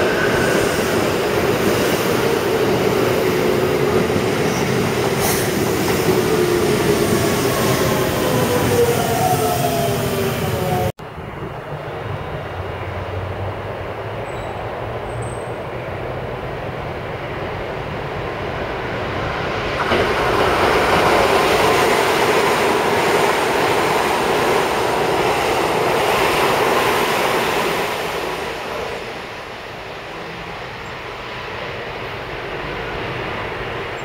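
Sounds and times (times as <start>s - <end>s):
electric train passing at speed: 0.0s - 34.0s.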